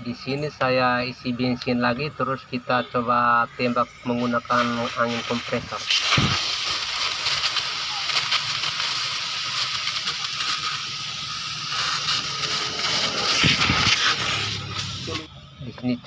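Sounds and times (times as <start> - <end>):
compressed air hissing: 0.0 - 15.8.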